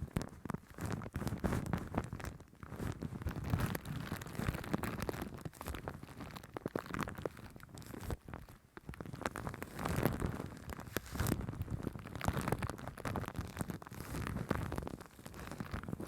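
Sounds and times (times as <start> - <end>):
foam crackling on microphone: 0.0 - 16.0.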